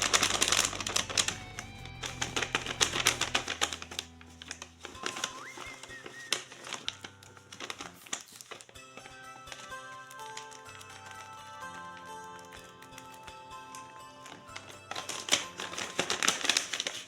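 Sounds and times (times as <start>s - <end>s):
background music with melody: 0.0s - 17.0s
paper clicks and crinkles: 0.0s - 17.0s.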